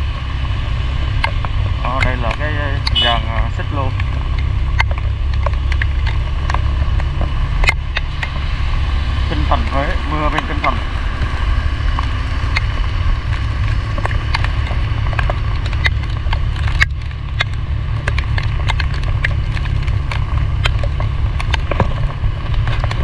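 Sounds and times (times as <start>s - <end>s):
heavy rain: 0.0s - 23.0s
raindrops ticking on microphone: 0.0s - 23.0s.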